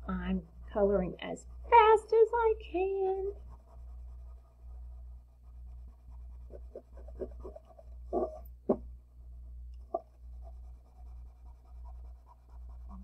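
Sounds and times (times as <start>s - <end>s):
steady low hum: 0.0s - 13.0s
crayon scribbling on paper: 0.2s - 8.4s, 9.8s - 13.0s.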